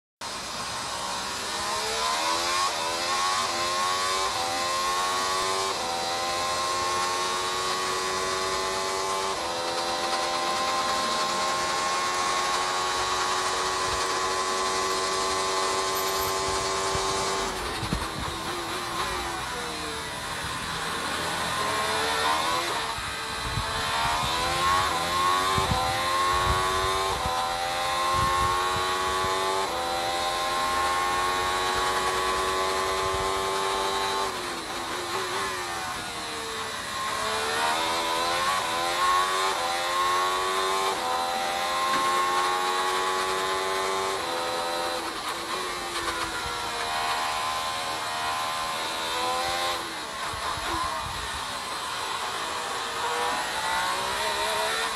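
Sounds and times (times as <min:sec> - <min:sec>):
racing car engine at full throttle: 0:00.2 - 0:54.9.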